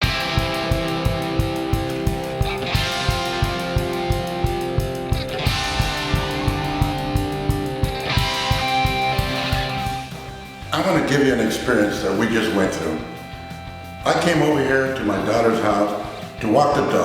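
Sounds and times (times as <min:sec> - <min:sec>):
guitar chords over a beat: 0:00.0 - 0:17.0.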